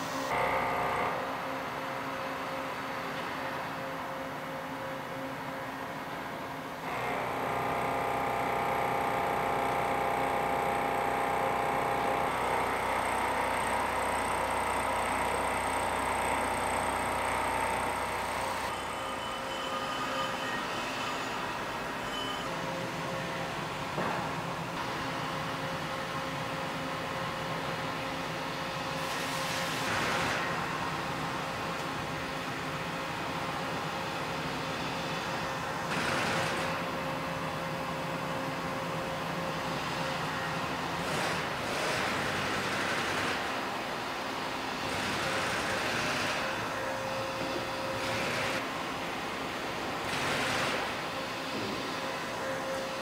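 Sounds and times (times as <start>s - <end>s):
machine hum and whine: 0.0s - 53.0s.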